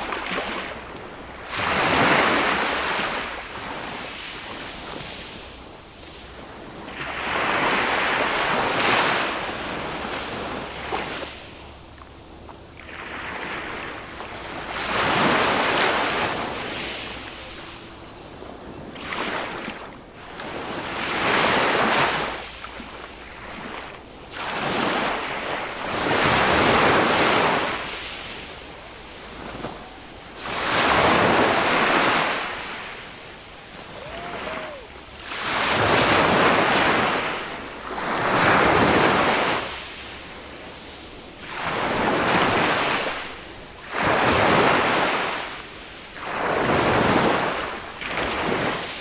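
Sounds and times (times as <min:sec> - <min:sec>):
small waves washing on sand: 0:00.0 - 0:49.0.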